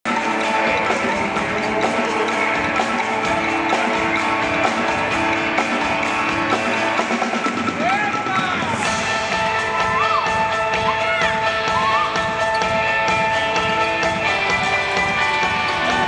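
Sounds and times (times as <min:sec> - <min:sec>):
rock music with steady beat: 0:00.0 - 0:16.0.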